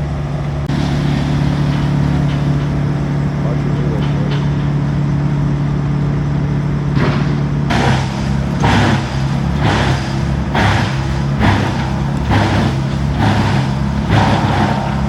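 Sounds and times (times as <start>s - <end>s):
heavy truck engine running: 0.0s - 15.0s.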